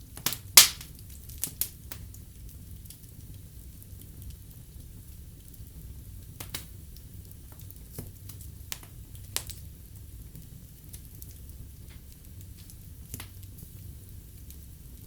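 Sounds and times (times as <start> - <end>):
fire crackling and popping: 0.0 - 15.0
rumble of flames: 0.0 - 15.0.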